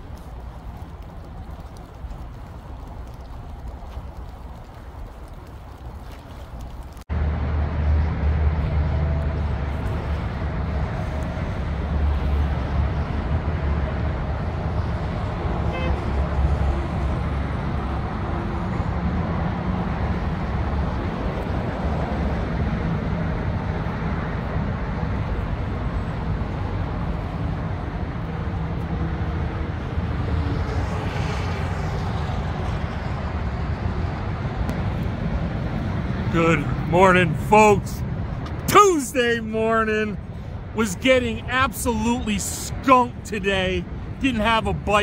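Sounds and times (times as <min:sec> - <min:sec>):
highway traffic rumble: 0:00.0 - 0:45.0
vehicle passing: 0:07.1 - 0:45.0.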